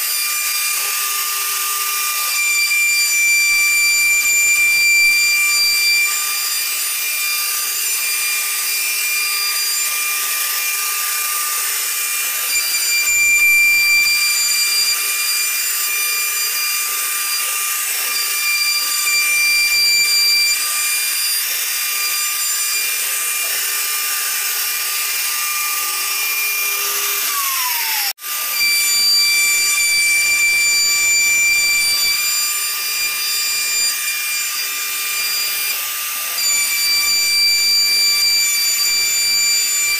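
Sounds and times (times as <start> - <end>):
cnc router spindle whine: 0.0 - 39.9
router bit cutting wood hiss: 0.0 - 39.9.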